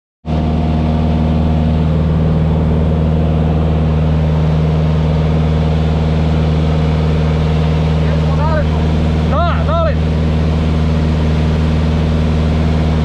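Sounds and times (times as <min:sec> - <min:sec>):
propeller aircraft engine droning: 0:00.2 - 0:13.0.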